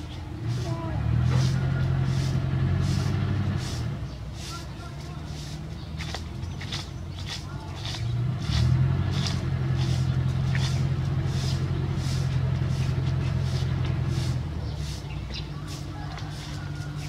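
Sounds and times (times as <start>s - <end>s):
low engine-like hum: 0.0s - 17.0s
twig broom sweeping sand: 0.0s - 17.0s.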